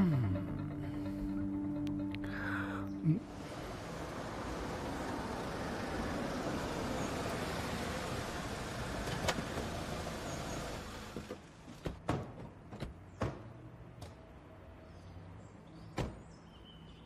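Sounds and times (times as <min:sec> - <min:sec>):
car engine and tyre rumble: 0:01.0 - 0:15.6.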